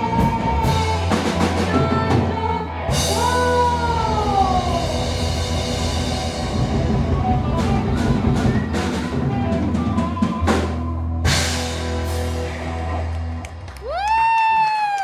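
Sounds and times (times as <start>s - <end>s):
held bass and guitar chord: 0.0s - 13.6s.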